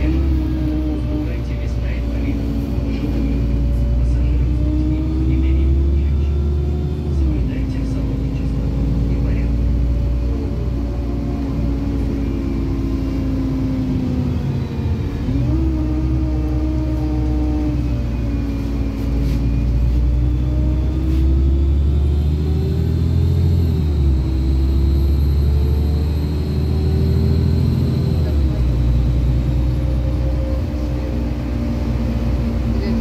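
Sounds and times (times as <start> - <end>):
bus engine hum: 0.0 - 33.0
low road rumble: 0.0 - 33.0.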